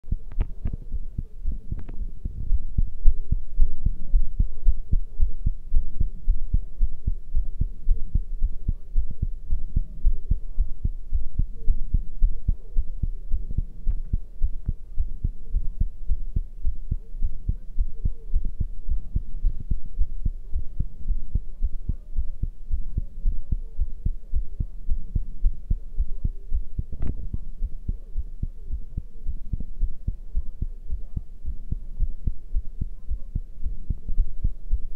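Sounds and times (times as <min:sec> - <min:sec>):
heartbeat thuds: 0:00.0 - 0:34.9.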